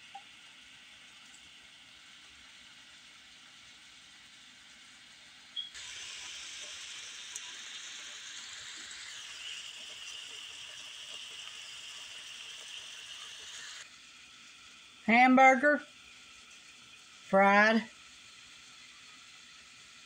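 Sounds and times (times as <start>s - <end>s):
patties sizzling in a frying pan: 0.0s - 20.0s.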